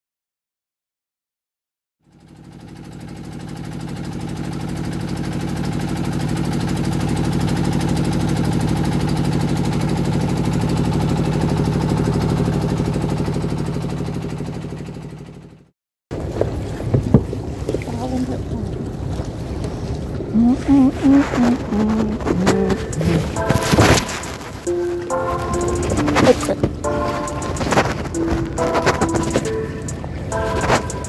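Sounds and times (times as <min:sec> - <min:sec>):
boat engine pulsing drone: 0:02.1 - 0:15.4, 0:17.9 - 0:31.0.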